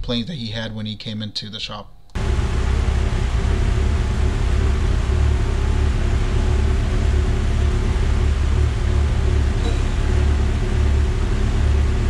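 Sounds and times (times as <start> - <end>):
car engine droning on dyno: 2.2 - 12.0.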